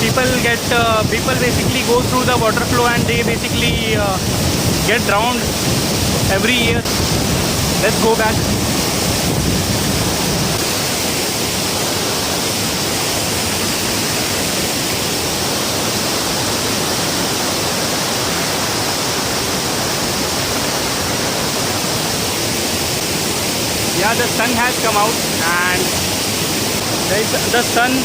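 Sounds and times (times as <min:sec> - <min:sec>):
waterfall roar: 0:00.0 - 0:28.0.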